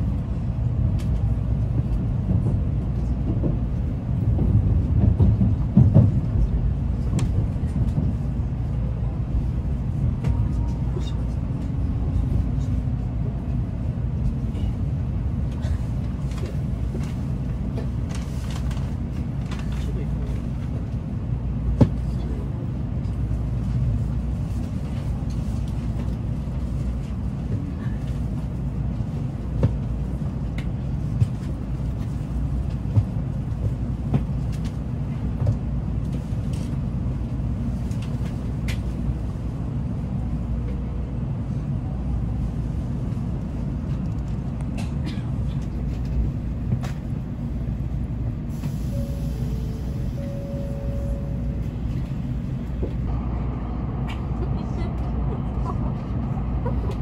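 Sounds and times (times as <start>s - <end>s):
train cabin rumble: 0.0s - 57.0s.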